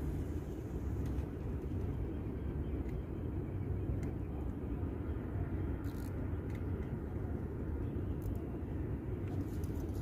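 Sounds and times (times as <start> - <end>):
distant city traffic: 0.0 - 10.0.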